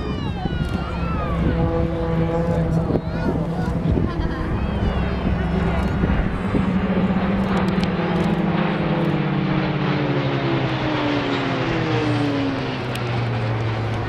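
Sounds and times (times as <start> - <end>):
propeller aircraft flying overhead: 0.0 - 14.0.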